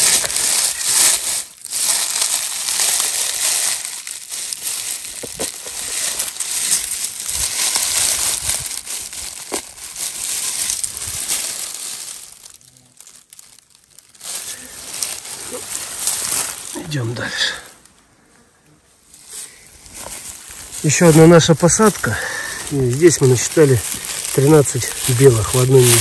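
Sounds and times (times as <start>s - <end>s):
leaves and twigs crackling: 0.0s - 26.0s.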